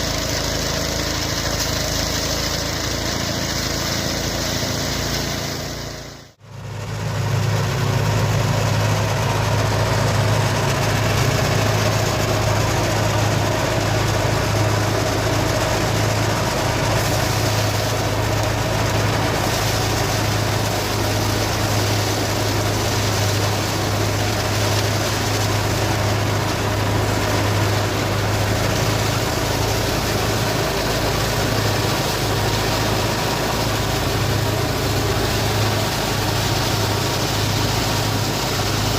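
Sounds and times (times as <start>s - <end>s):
threshing machine running: 0.0s - 38.9s.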